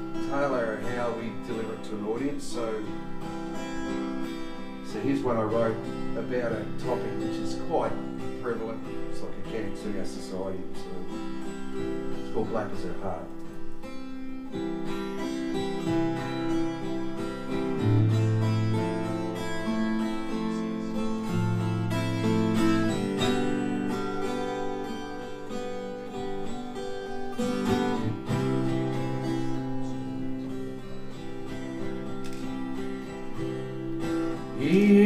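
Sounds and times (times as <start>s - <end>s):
acoustic guitar chords: 0.0s - 35.0s.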